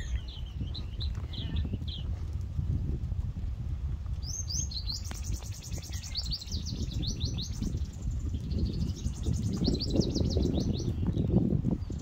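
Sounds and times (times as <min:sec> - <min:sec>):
small birds chirping: 0:00.0 - 0:02.4, 0:04.1 - 0:12.0.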